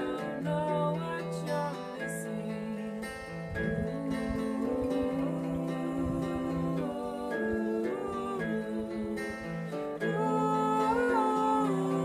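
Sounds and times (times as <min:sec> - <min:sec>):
acoustic guitar: 0:00.0 - 0:12.0
person singing long notes: 0:00.0 - 0:12.0.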